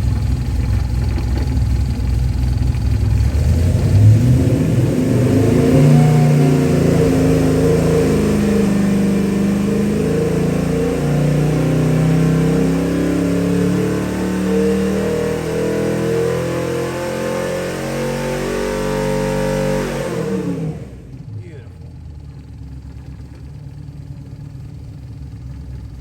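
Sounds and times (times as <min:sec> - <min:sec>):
engine revving: 0:00.0 - 0:21.9.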